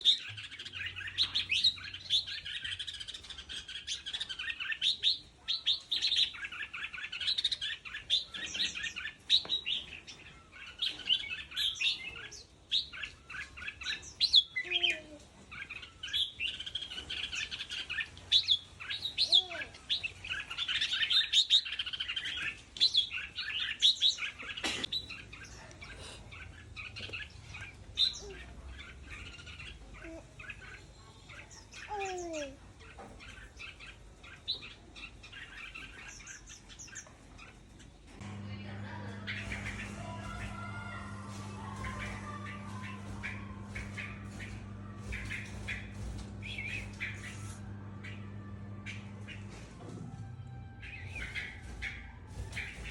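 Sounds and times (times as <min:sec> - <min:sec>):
bird chirping song: 0:00.0 - 0:52.9.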